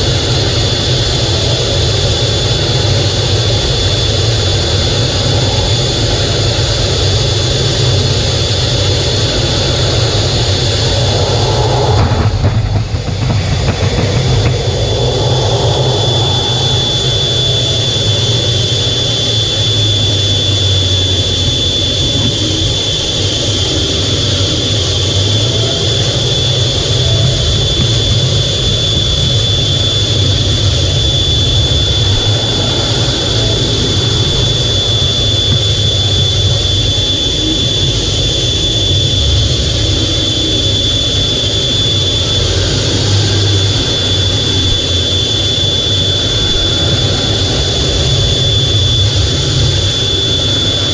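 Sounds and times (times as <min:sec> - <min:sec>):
high-pitched jet whine: 0:00.0 - 0:50.9
jet engines rumbling: 0:00.0 - 0:50.9.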